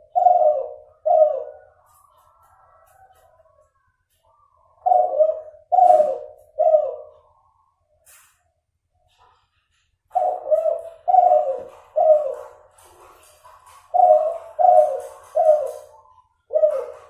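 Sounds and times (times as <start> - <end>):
dove cooing: 0.0 - 7.8, 10.1 - 17.0.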